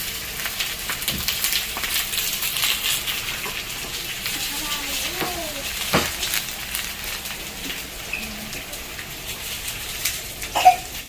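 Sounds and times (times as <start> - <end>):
food sizzling on hot plates: 0.0 - 11.0.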